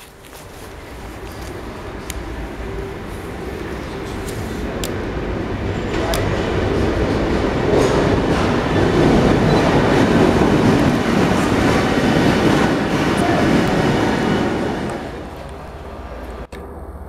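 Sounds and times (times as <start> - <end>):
diesel locomotive engine drone: 0.0 - 17.0
wheel and rail noise: 0.0 - 17.0.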